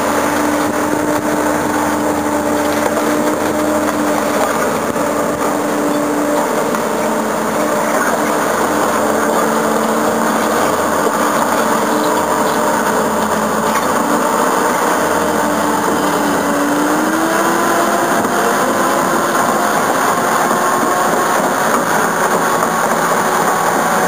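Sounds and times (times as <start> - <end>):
dozer mechanical whine: 0.0 - 24.0
rattle of tracks: 0.0 - 24.0.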